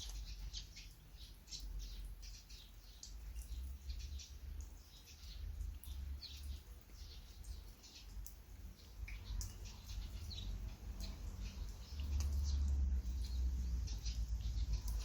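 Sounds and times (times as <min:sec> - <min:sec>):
rain dripping and pattering: 0:00.0 - 0:15.0.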